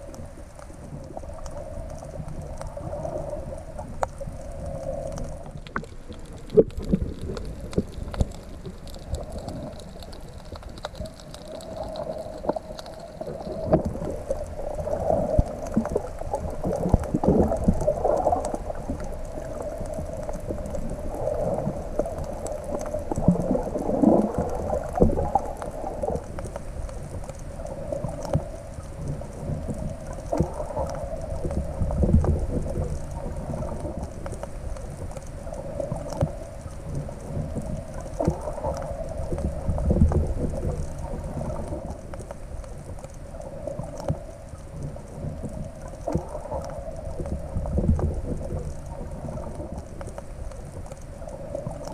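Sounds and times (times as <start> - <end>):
faint clicks: 0.0 - 51.9
underwater sloshing and gurgling: 0.0 - 51.9.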